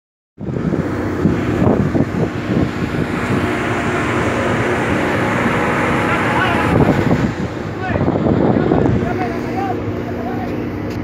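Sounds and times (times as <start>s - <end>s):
boat engine running: 0.4s - 11.0s
sea noise: 0.4s - 11.0s
wind: 0.4s - 11.0s.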